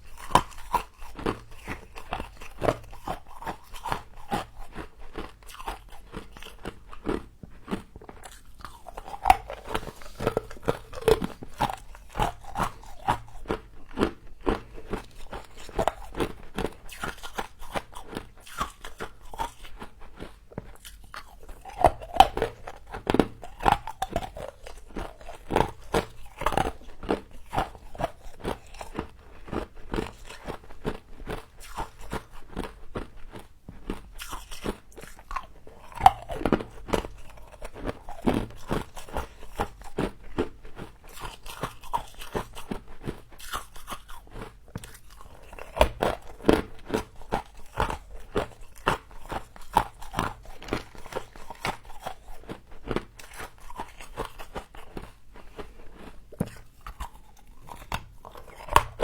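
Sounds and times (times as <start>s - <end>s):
person crunching frost: 0.0s - 59.0s.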